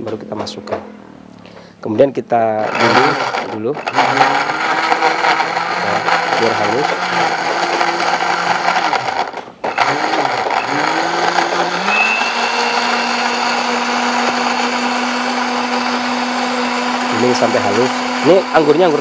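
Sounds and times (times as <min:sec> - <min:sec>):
blender running: 0:02.6 - 0:19.0.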